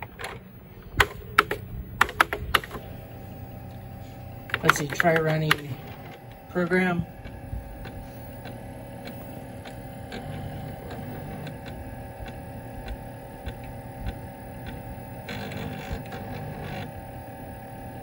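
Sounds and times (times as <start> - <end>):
floppy drive head clicks: 0.0 - 17.0
computer hum and whine: 0.0 - 18.0
floppy drive rasping seeks: 0.0 - 18.0.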